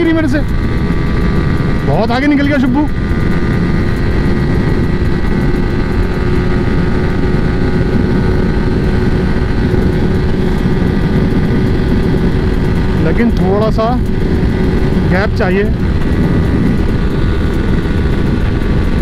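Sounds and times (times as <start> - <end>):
motorcycle engine at high revs: 0.0 - 19.0
wind and road rush: 0.0 - 19.0.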